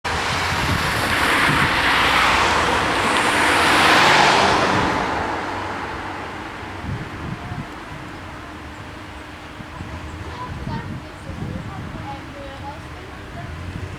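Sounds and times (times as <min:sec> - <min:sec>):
vehicle driving past: 0:00.1 - 0:12.0.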